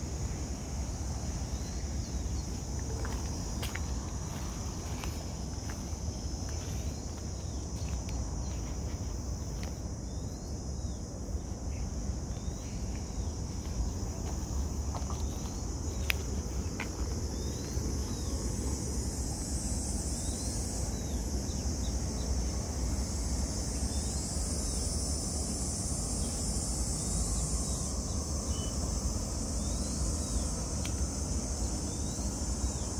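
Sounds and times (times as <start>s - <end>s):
high-pitched insect drone: 0.0s - 32.9s
higher insect buzz: 0.0s - 32.9s.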